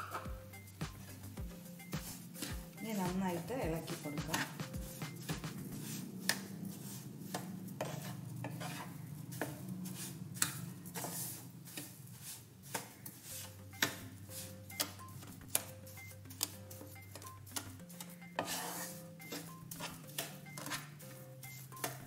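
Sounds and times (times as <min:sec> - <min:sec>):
utensil stirring thick mixture: 0:02.0 - 0:22.0.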